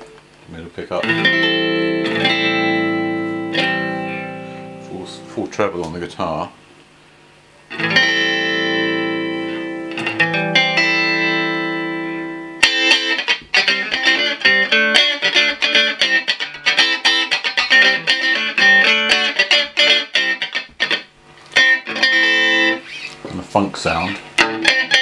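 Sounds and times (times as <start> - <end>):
electric guitar chords: 0.0 - 6.1, 6.8 - 25.0
choppy funk guitar strumming: 0.9 - 5.8, 7.7 - 25.0.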